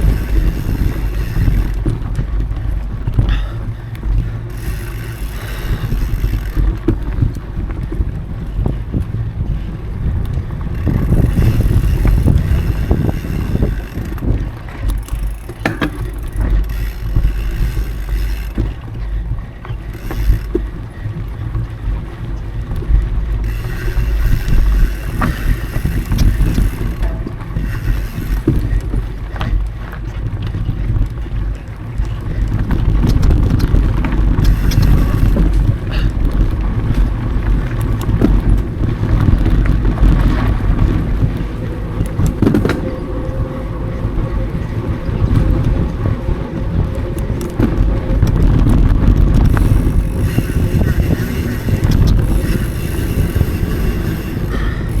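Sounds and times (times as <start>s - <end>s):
bike clicks and rattles: 0.0s - 55.0s
tyres rumbling on dirt trail: 0.0s - 55.0s
wind buffeting microphone: 0.0s - 55.0s.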